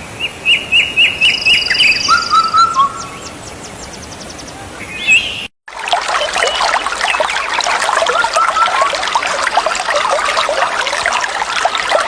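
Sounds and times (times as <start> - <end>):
stream trickling and bubbling: 0.0 - 4.2, 4.8 - 12.0.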